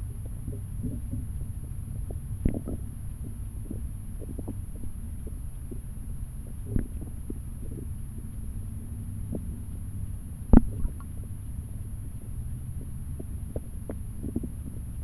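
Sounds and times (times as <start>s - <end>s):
muffled underwater stream rumble: 0.0s - 15.0s.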